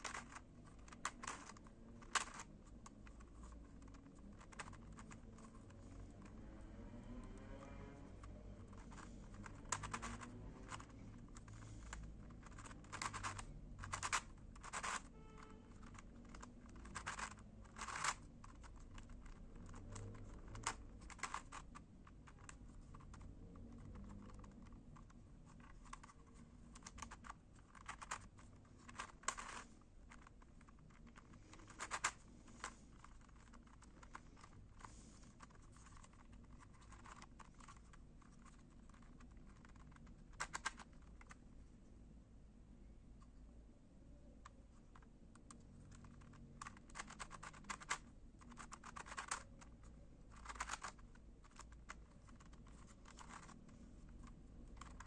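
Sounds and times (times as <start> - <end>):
twisty puzzle clicking: 0.0 - 41.4, 44.3 - 55.0.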